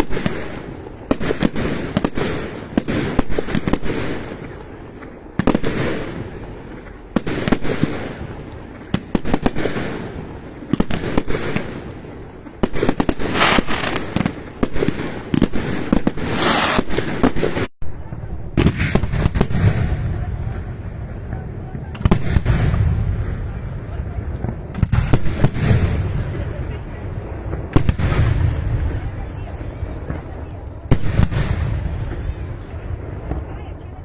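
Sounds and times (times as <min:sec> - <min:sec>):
fireworks cracking and popping: 0:00.0 - 0:34.0.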